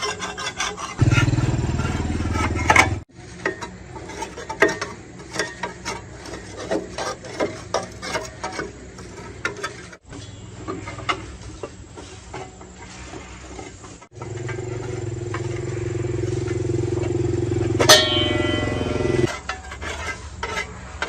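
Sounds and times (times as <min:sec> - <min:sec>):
hand tool clicks and scrapes: 0:00.0 - 0:16.6, 0:17.8 - 0:21.0.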